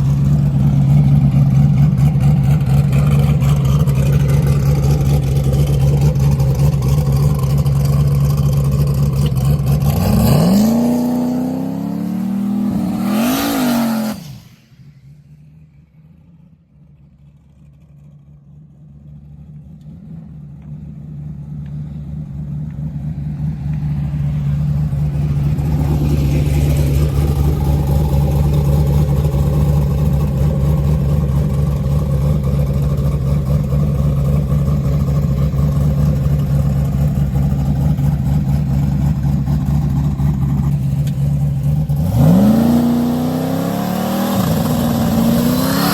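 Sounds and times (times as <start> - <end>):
race car engine revving: 0.0 - 14.6, 23.4 - 45.9.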